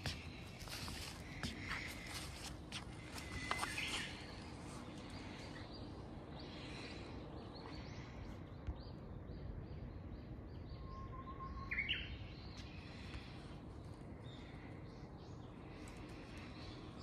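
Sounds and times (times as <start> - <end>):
bush warbler song: 0.0 - 17.0.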